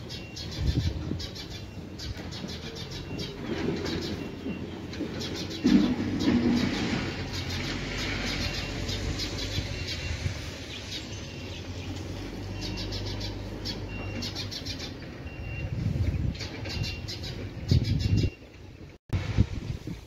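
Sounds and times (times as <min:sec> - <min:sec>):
small birds chirping: 0:00.0 - 0:19.0
wind buffeting microphone: 0:00.0 - 0:20.0.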